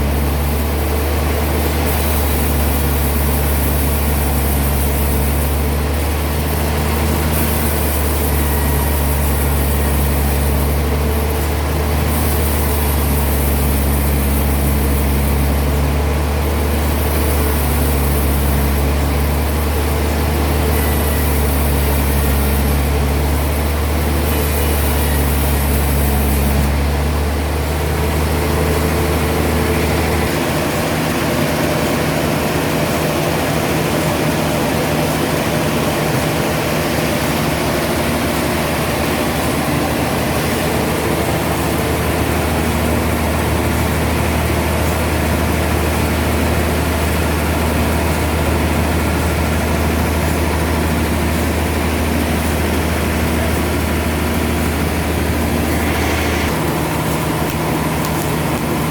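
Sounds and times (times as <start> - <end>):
sawmill machinery drone: 0.0 - 58.9.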